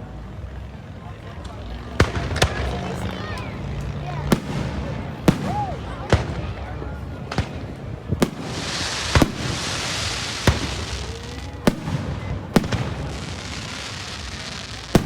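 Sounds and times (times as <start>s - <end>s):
fireworks bangs: 1.4s - 15.0s
fireworks hissing crackle: 1.8s - 15.0s.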